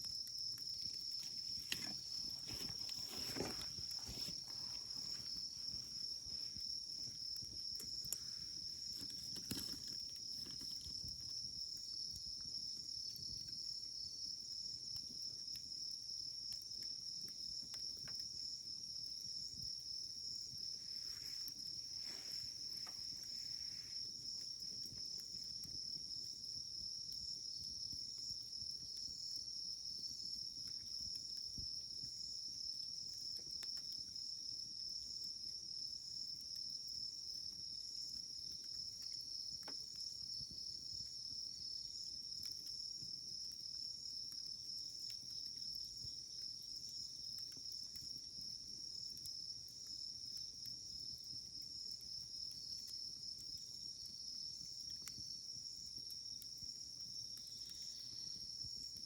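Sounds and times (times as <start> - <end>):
campfire crackling and popping: 0.0 - 59.0
insect trill: 0.0 - 59.0.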